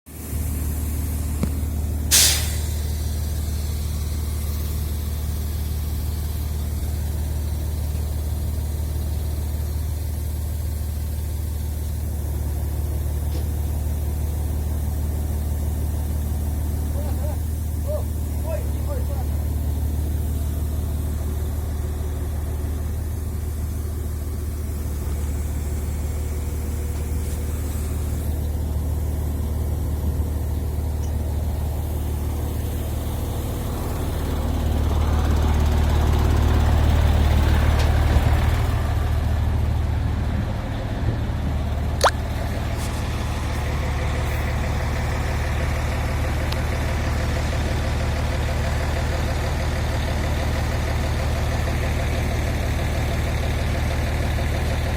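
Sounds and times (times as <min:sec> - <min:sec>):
diesel engine running: 0:00.1 - 0:54.9.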